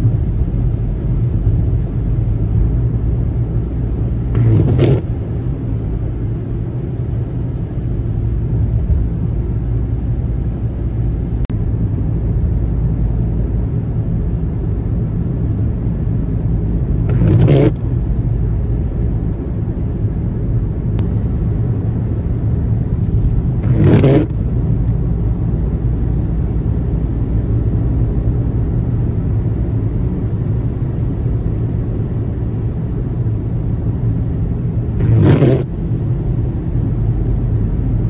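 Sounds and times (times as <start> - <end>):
car road noise and engine hum: 0.0 - 38.0.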